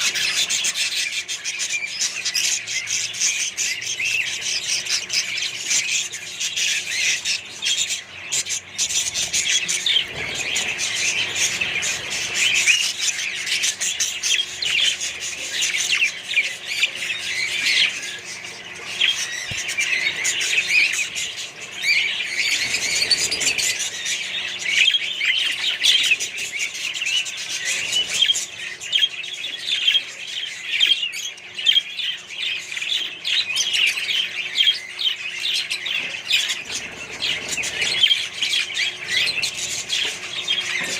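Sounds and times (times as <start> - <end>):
parrots chattering and squawking: 0.0 - 40.9.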